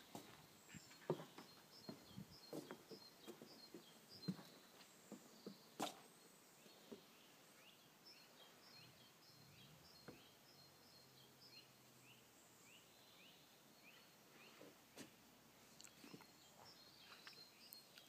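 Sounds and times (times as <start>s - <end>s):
small bird chirping: 0.2s - 14.7s, 15.8s - 18.0s.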